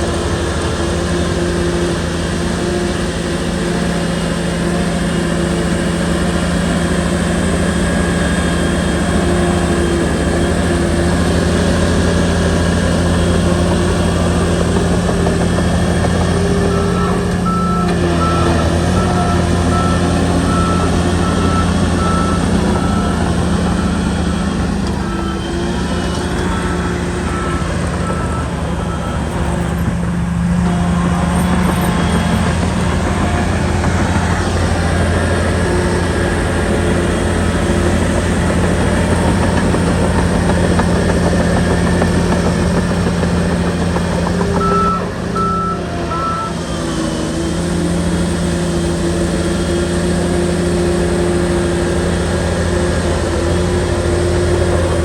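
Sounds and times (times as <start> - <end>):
bulldozer diesel engine: 0.0 - 55.0
reversing alarm beeping: 0.2 - 47.3.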